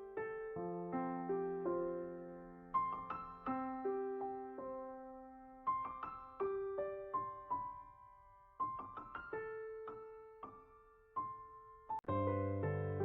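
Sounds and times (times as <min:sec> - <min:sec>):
soft solo piano melody: 0:00.0 - 0:13.0.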